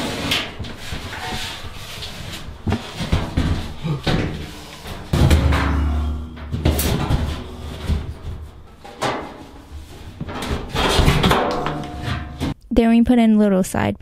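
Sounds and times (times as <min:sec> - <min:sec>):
bathtub knocking and scraping: 0:00.0 - 0:12.6.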